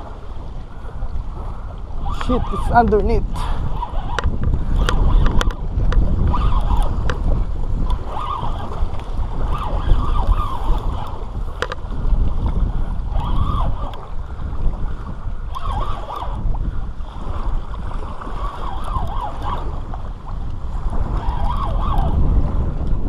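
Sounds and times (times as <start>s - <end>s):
fishing reel drag whining: 0.0s - 22.9s
wind rumble on microphone: 0.0s - 23.0s.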